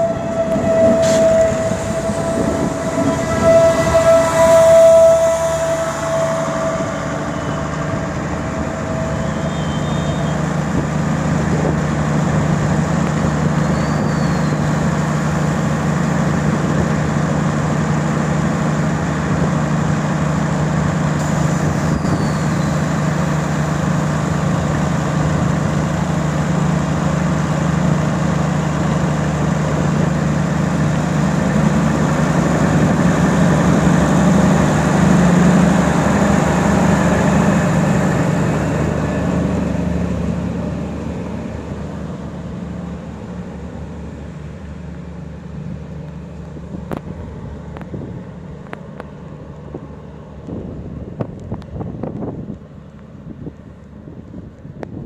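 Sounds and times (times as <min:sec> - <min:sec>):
diesel train engines idling: 0:00.0 - 0:55.0.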